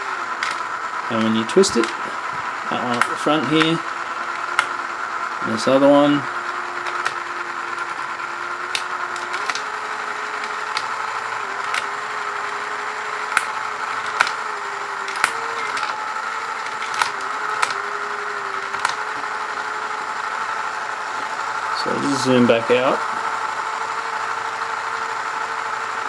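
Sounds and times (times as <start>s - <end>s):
sharp clicks of controls: 0.0s - 26.0s
toy motor and gears whining: 0.0s - 26.0s.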